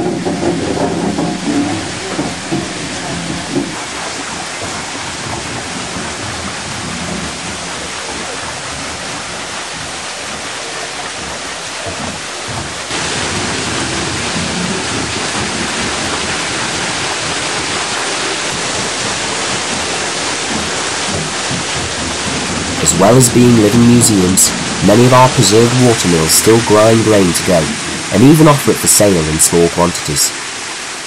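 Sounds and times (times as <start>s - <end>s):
water rushing at waterwheel: 0.0s - 31.0s.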